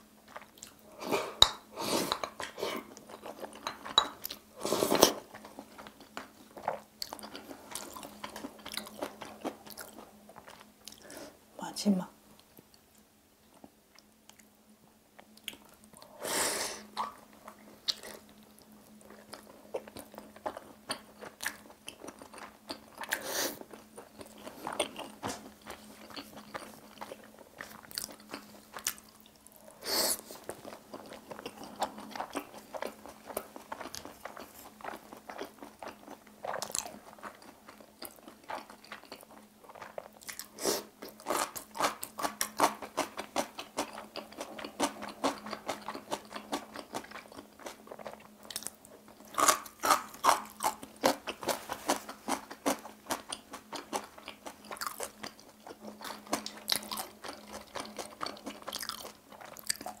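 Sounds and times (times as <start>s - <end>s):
crunching and chewing food: 0.0s - 11.4s, 15.1s - 16.2s, 16.8s - 60.0s.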